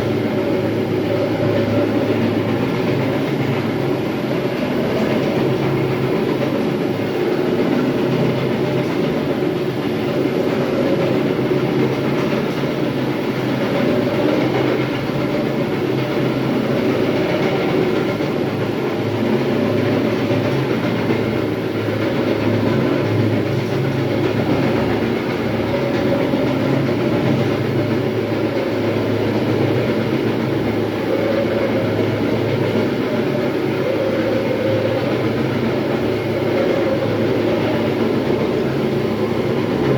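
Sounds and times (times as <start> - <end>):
floor grinder running: 0.0 - 39.9.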